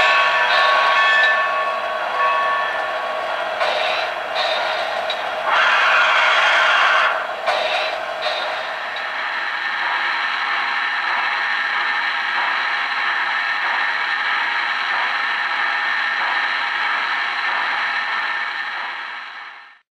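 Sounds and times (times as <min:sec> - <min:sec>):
model trains whirring and clattering: 0:00.0 - 0:19.8.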